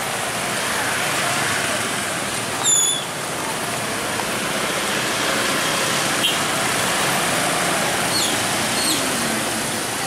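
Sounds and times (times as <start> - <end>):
scooters and cars passing: 0.0 - 10.0.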